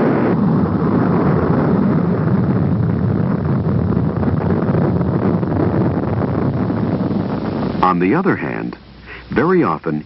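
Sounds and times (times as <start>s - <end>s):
rocket engines rumbling: 0.0s - 10.0s.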